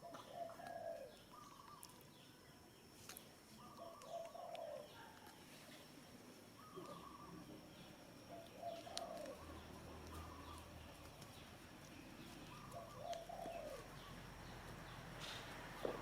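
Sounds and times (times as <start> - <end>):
dove cooing: 0.0 - 1.8, 3.6 - 5.4, 6.5 - 16.0.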